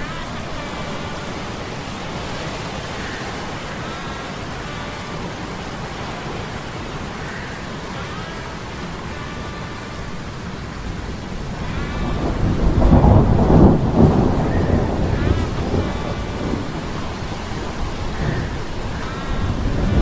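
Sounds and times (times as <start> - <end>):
surf: 0.0 - 20.0
wind: 0.0 - 20.0.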